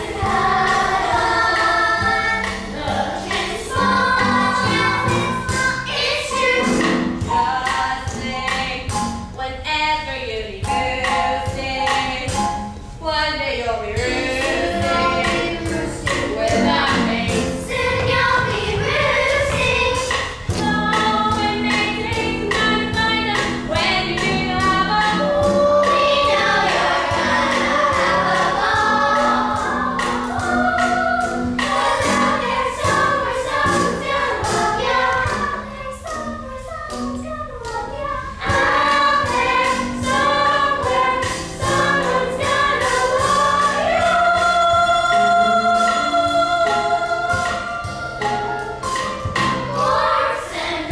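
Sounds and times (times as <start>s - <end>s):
chorus singing: 0.0s - 8.8s, 13.9s - 36.4s, 37.6s - 50.9s
instrumental accompaniment: 0.0s - 9.6s, 10.6s - 50.9s.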